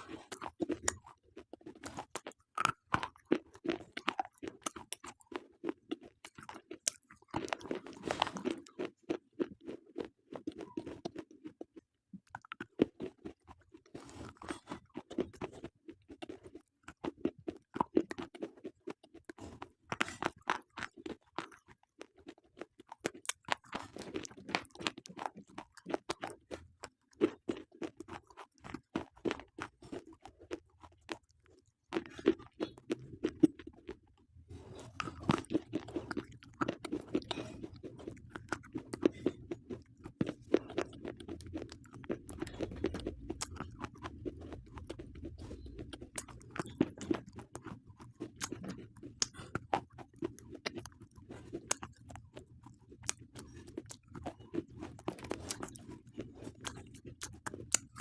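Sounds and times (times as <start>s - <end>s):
chewing hard brittle pencils: 0.0s - 58.0s.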